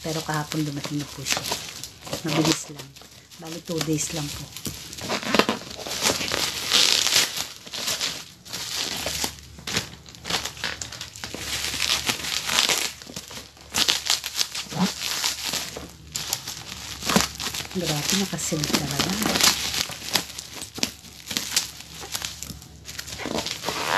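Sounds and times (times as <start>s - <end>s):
bubble wrap crinkling: 0.0s - 23.9s.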